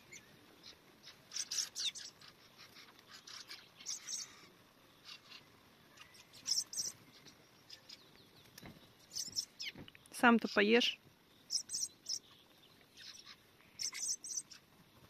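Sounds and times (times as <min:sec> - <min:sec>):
thrushes chirping: 0:00.0 - 0:15.0.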